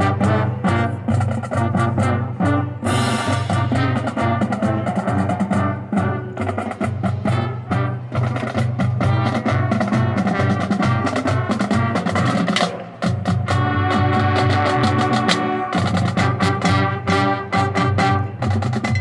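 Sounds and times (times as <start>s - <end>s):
fast drumline strokes: 0.0s - 19.0s
marching band playing: 0.0s - 19.0s.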